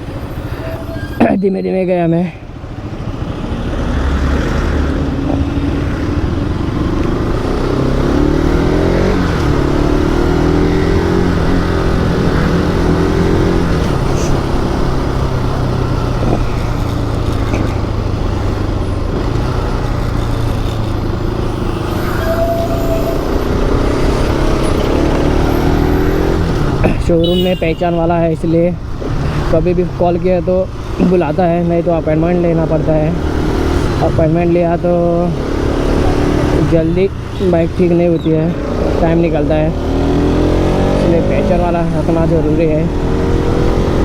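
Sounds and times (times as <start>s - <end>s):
motorcycle engine revving: 2.6s - 44.0s.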